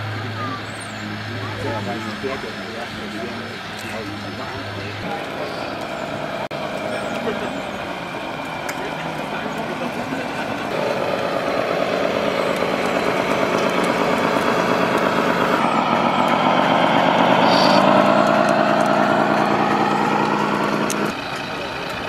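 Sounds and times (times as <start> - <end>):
simulated diesel truck engine: 0.0 - 22.0.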